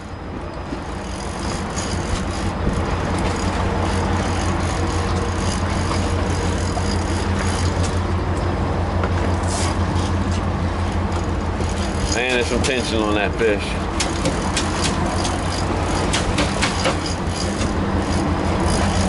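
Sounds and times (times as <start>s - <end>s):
outboard motors running: 0.0s - 19.0s
water noise: 0.0s - 19.0s
wind: 0.0s - 19.0s.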